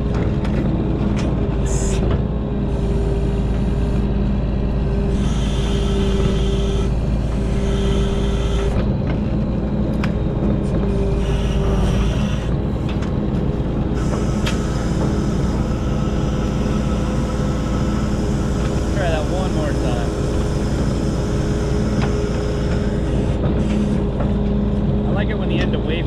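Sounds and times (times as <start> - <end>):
high hydraulic whine: 0.0 - 26.0
log loader engine working: 0.0 - 26.0.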